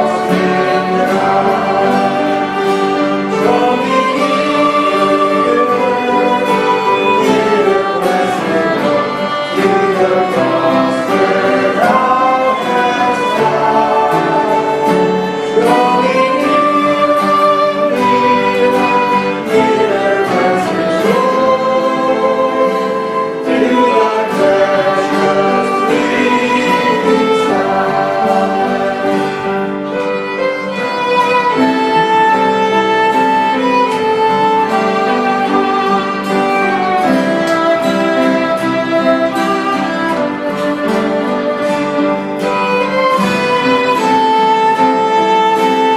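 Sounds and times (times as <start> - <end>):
bowed string melody: 0.0 - 45.9
voices singing: 0.0 - 45.9.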